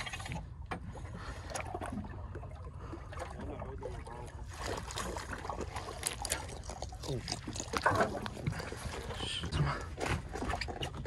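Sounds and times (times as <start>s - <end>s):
water splashing against boat: 0.0s - 11.0s.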